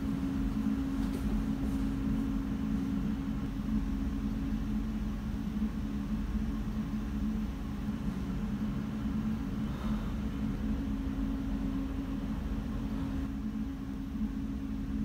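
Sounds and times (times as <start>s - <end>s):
faint rumble: 0.0s - 15.0s
steady low hum: 0.0s - 15.0s.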